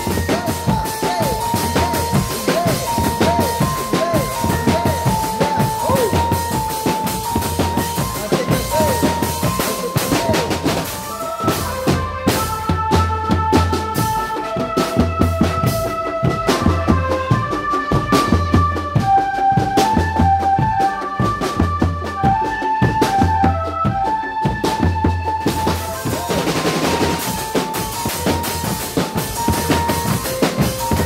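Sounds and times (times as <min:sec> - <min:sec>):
drum band playing fast beat: 0:00.0 - 0:31.0
melody of held notes: 0:00.0 - 0:31.0.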